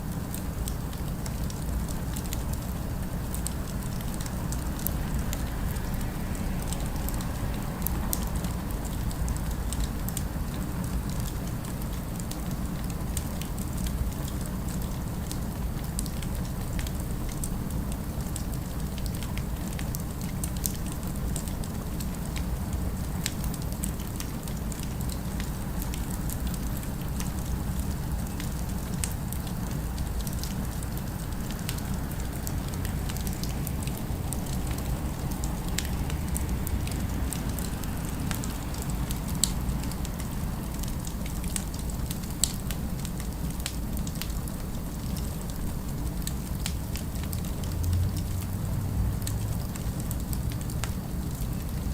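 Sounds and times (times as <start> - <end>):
city ambience rumble: 0.0 - 51.9
wood fire crackling: 0.0 - 51.9.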